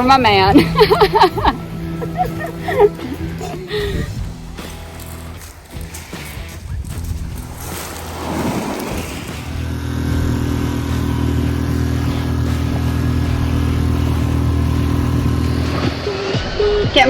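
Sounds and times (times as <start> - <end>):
boat engine running: 0.0 - 16.6.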